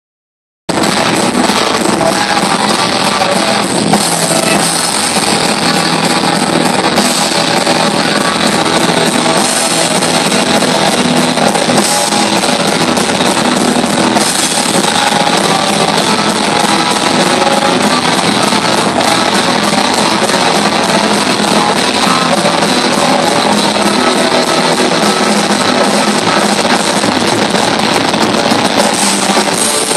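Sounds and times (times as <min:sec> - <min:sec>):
heavy metal band playing live: 0:00.7 - 0:29.9.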